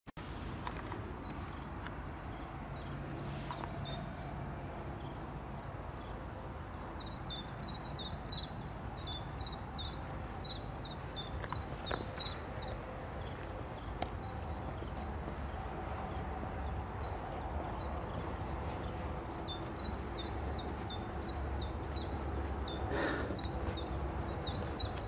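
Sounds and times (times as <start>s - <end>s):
songbird singing: 0.7s - 25.0s.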